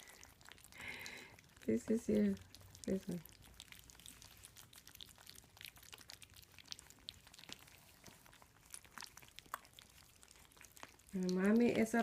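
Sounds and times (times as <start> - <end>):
puppies eating wet smacking: 0.0 - 12.0.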